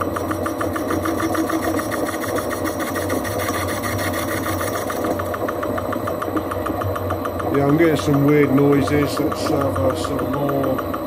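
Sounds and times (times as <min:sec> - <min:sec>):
fast even ticking: 0:00.0 - 0:11.0
metal lathe running: 0:00.0 - 0:11.0.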